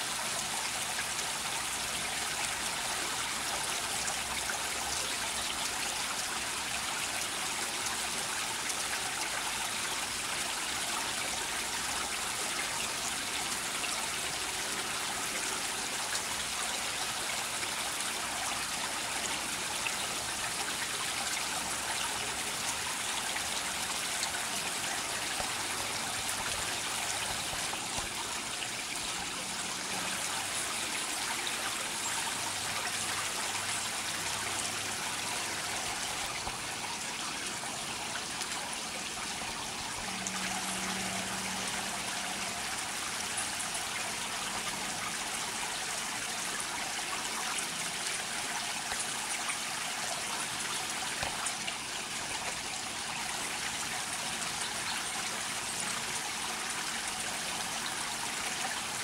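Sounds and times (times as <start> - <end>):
water trickling over rocks: 0.0 - 59.0.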